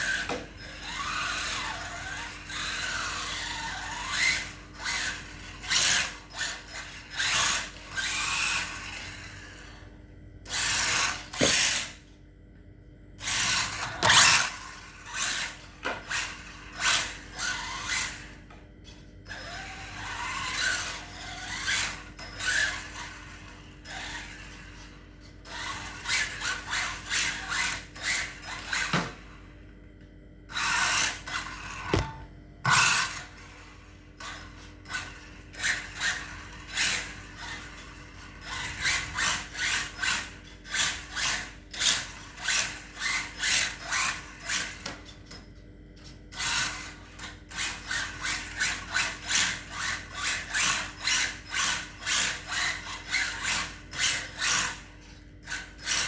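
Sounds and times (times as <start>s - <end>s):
toy car tyres scraping floor: 0.0s - 12.2s, 13.2s - 29.5s, 30.5s - 56.0s.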